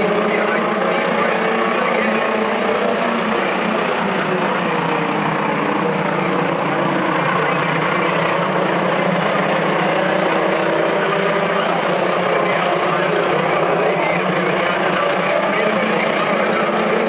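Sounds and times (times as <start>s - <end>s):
racing truck engines droning: 0.0s - 17.0s.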